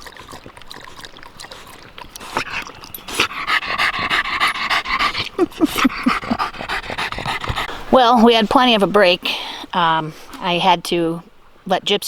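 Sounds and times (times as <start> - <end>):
dog panting hard: 0.0 - 10.4.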